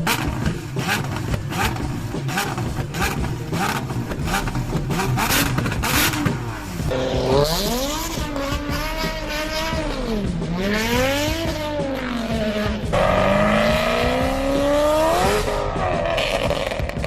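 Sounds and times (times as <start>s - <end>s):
sports car engine revving: 0.0s - 17.0s.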